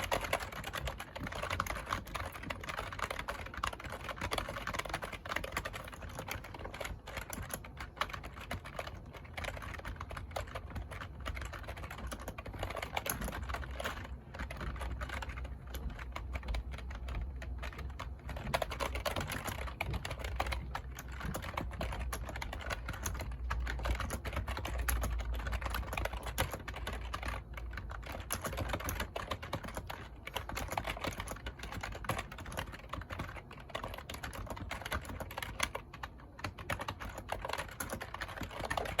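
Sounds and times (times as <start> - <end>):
fast keyboard typing: 0.0 - 39.0.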